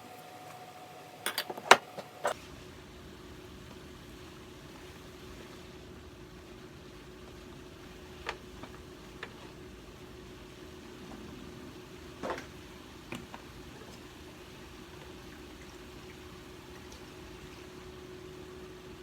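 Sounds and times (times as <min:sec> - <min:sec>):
steady hum and hiss: 0:00.0 - 0:19.0.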